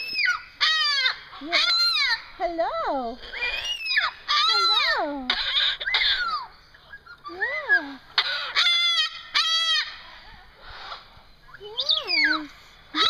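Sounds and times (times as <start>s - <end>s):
cockatoos squawking: 0.0s - 13.0s.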